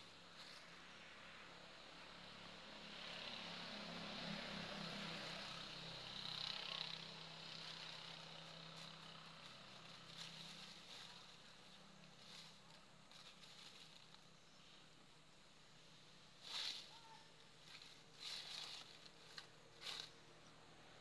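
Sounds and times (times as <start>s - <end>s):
distant engine hum: 0.0s - 21.0s.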